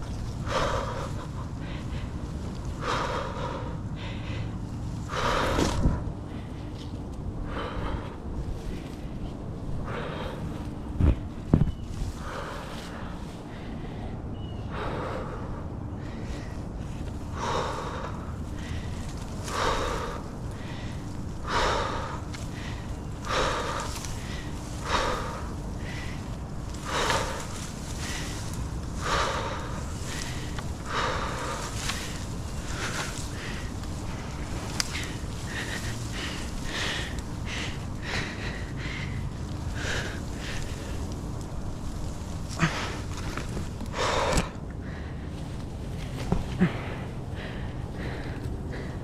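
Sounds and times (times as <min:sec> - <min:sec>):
person breathing hard: 0:00.0 - 0:49.0.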